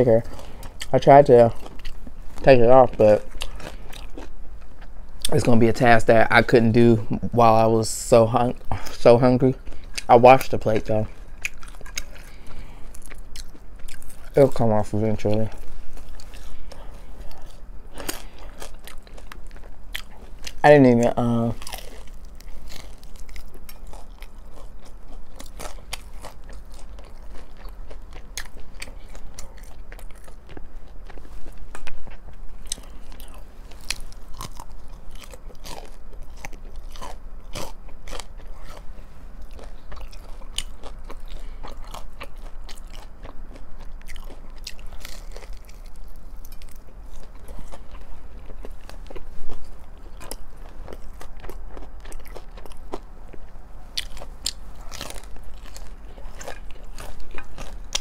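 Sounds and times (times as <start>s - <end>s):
crunching fried chicken: 0.0s - 58.0s
wet chewing: 0.2s - 5.3s, 9.6s - 58.0s.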